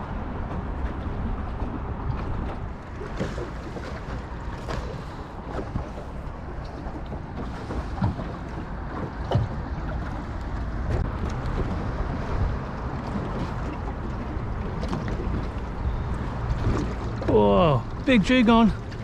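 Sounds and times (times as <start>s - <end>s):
boat motor running steadily: 0.0s - 19.0s
water noise: 0.0s - 19.0s
wind: 0.0s - 19.0s.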